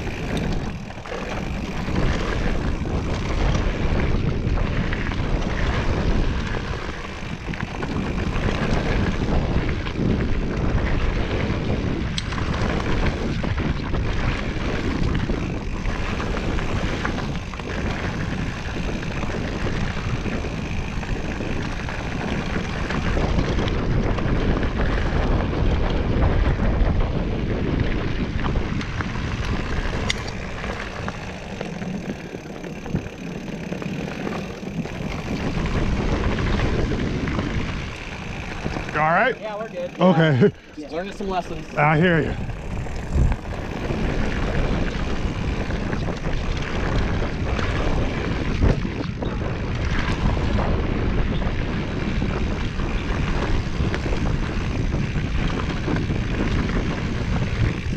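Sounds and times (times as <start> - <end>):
mountain bike rattling on dirt trail: 0.0 - 57.9
wind on microphone: 0.0 - 57.9.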